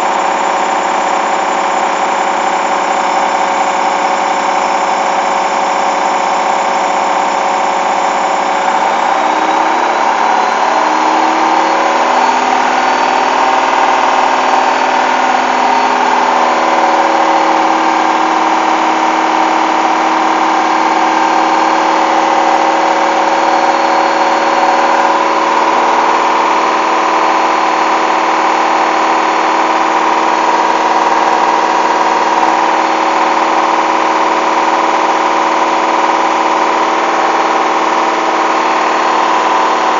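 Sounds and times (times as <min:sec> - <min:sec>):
washing machine whirring: 0:00.0 - 0:39.9.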